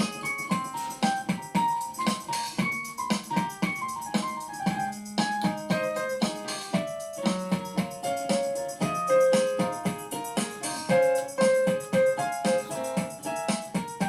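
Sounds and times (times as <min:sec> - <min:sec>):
keyboard playing bouncy melody: 0:00.0 - 0:14.0
steady beat: 0:00.0 - 0:14.0.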